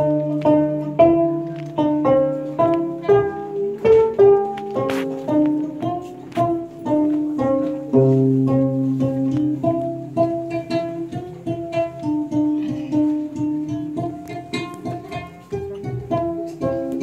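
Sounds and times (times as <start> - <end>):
instrumental hymn music: 0.0 - 17.0.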